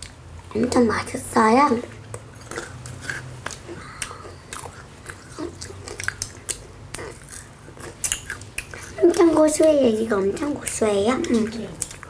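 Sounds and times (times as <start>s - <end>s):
crunchy cookies being chewed: 0.0s - 12.0s.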